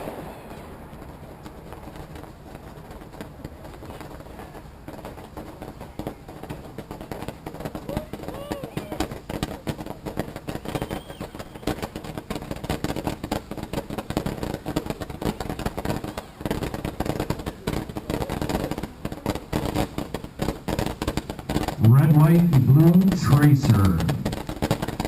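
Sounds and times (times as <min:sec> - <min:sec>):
fireworks popping and crackling: 0:00.0 - 0:25.0.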